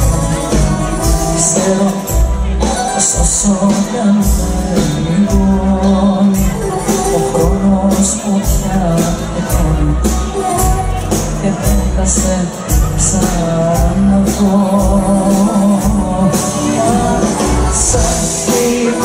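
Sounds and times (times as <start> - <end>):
drum beat with cymbals: 0.0 - 19.0
live band playing: 0.0 - 19.0
woman singing into microphone: 0.0 - 19.0.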